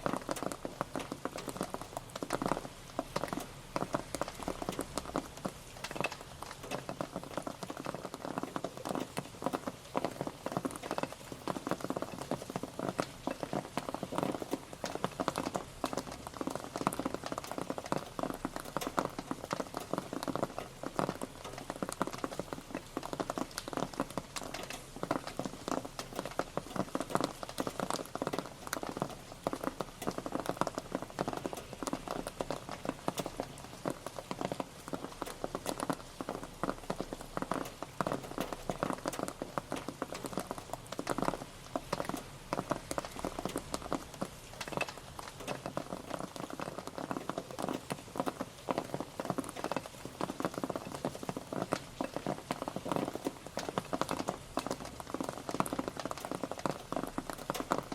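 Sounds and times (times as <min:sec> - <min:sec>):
rain pattering: 0:00.0 - 0:57.9.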